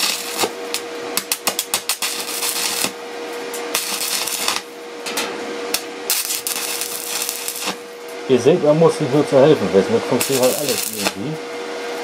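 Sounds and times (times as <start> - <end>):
welding arc crackling and hissing: 0.0 - 4.8, 5.7 - 11.4.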